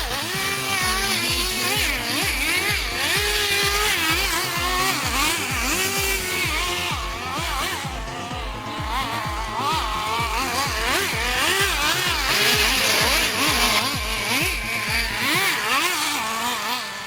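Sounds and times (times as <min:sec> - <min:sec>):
music with kick-drum beat: 0:00.0 - 0:15.9
rc car nitro engine revving: 0:00.0 - 0:17.0.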